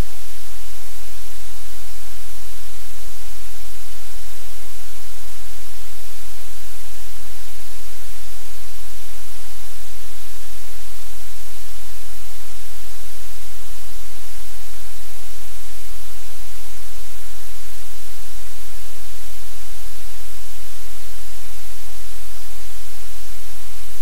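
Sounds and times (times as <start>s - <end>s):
steady static hiss: 0.0s - 24.0s.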